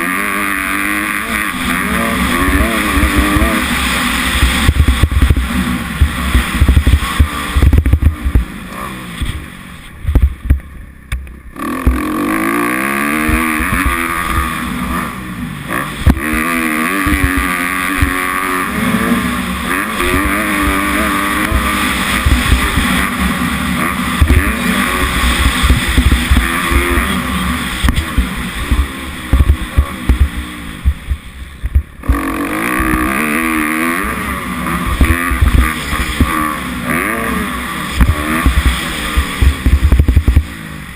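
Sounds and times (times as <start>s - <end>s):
motocross engine revving: 0.0s - 10.6s, 11.4s - 40.9s.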